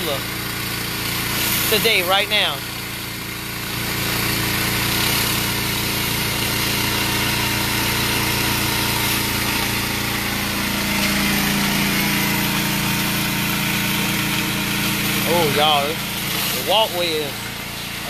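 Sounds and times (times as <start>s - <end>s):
pressure washer hiss: 0.0s - 18.0s
small gas engine running: 0.0s - 18.0s.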